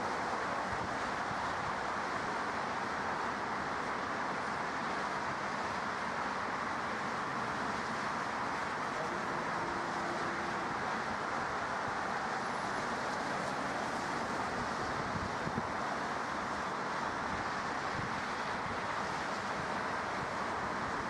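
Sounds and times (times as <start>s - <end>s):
airport ambience rushing noise: 0.0s - 21.0s.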